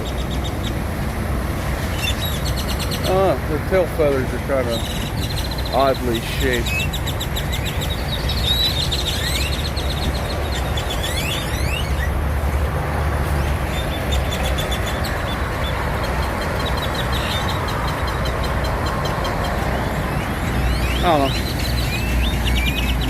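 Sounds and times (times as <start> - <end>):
low engine rumble: 0.0 - 23.0
birds whistling: 1.9 - 3.4, 4.6 - 12.2, 13.4 - 23.0.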